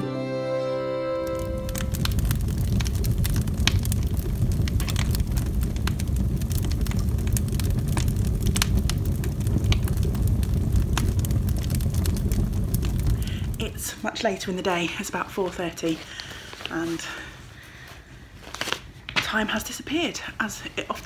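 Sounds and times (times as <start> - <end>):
low rumble of flames: 1.2 - 21.0
wood crackling and popping: 1.2 - 21.0.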